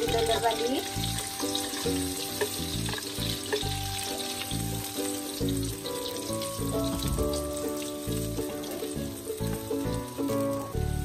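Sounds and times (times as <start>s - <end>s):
paste sizzling in hot oil: 0.0s - 10.8s
background music with a beat: 0.0s - 11.0s.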